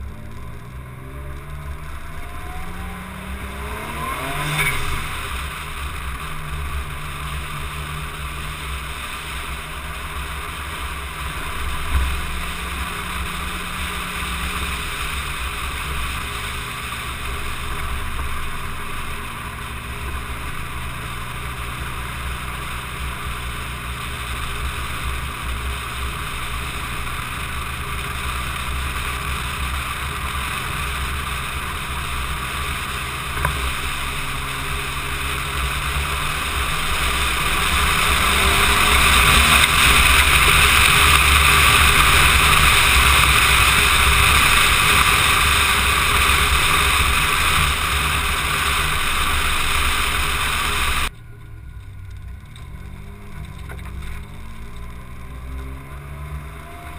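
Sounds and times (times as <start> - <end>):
car engine running: 0.0 - 56.9
wind and road noise: 0.0 - 56.9.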